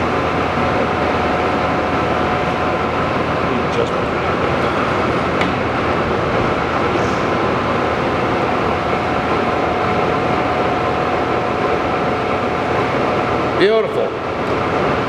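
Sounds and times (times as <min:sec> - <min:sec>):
faint high whine: 0:00.0 - 0:13.0
lathe motor drone: 0:00.0 - 0:13.6.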